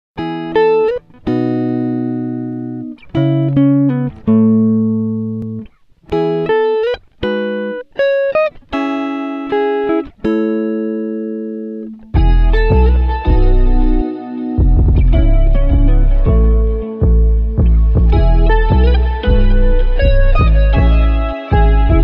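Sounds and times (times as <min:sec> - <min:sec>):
plucked guitar notes and chords: 0:00.2 - 0:22.0.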